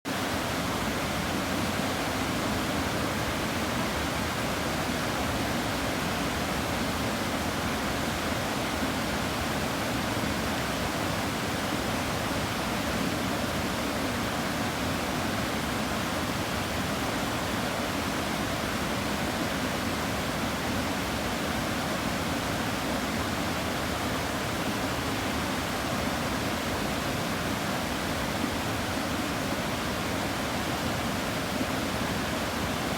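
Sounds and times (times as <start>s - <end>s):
river water rushing: 0.1s - 32.9s.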